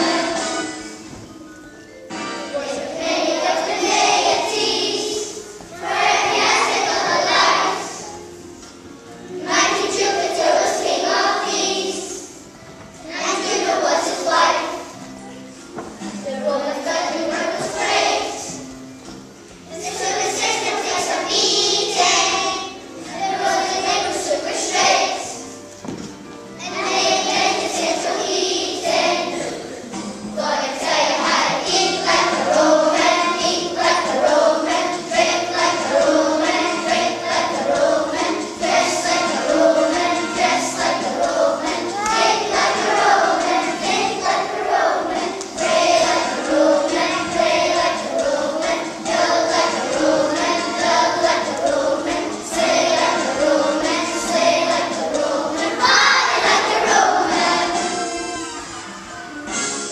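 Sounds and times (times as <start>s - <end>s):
children singing together: 0.0s - 1.3s, 2.1s - 8.4s, 9.3s - 15.2s, 16.0s - 18.8s, 19.4s - 25.9s, 26.6s - 59.9s.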